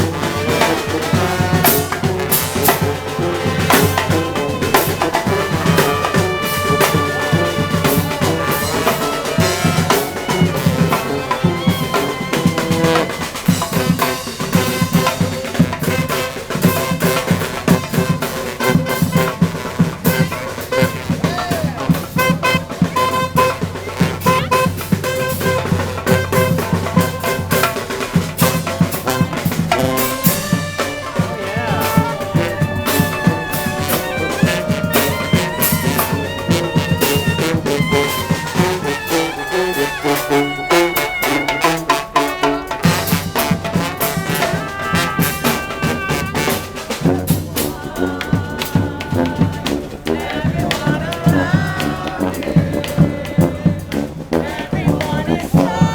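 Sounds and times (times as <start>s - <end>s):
brass horns playing: 0.0s - 55.9s
drums keeping beat: 0.0s - 55.9s.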